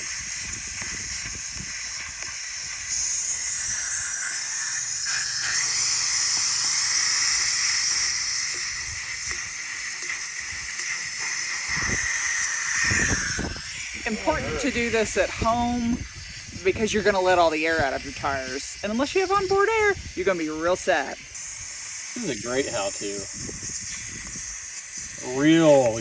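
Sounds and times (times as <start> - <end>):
air hissing from tire valve: 0.0 - 26.0.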